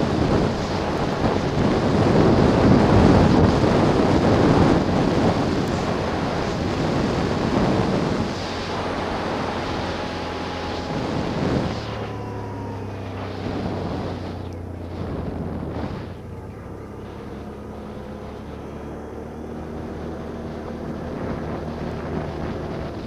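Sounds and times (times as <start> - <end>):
quad bike engine running: 0.0 - 23.0
wind buffeting microphone: 0.0 - 23.0.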